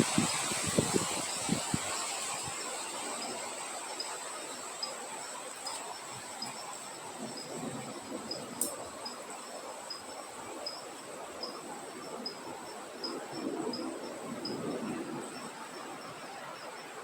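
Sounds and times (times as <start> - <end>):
insects trilling: 0.0 - 17.0
wind gusts: 0.0 - 17.0.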